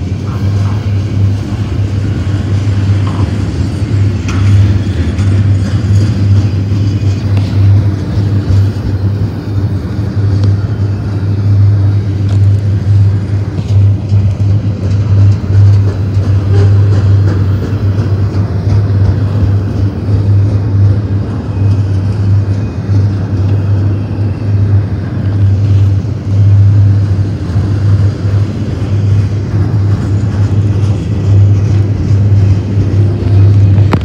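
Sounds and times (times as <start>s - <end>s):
freight train wheels rumbling: 0.0s - 34.0s.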